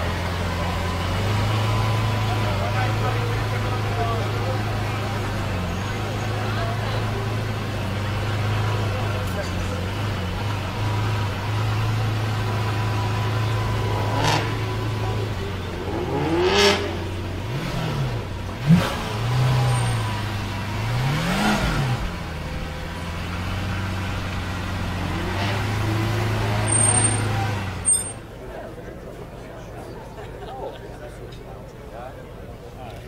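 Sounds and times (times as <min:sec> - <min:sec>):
car engine idling and revving: 0:00.0 - 0:28.3.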